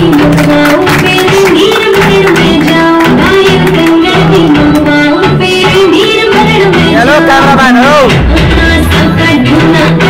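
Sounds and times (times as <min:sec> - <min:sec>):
dance music with drum beat: 0:00.0 - 0:10.0.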